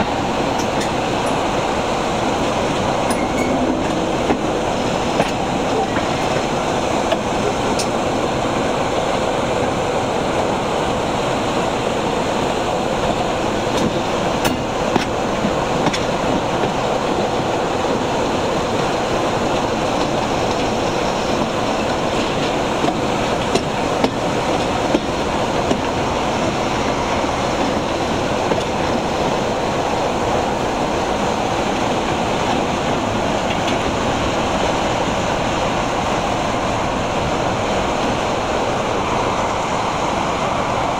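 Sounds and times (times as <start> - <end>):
rushing air: 0.0 - 15.8, 16.8 - 40.9
locomotive engine: 0.0 - 40.9
train wheels on rails: 0.0 - 40.9.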